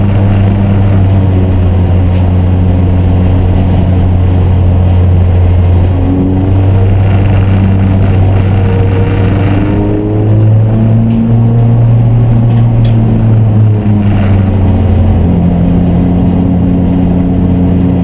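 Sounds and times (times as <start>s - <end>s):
racing car engine running: 0.0s - 18.0s.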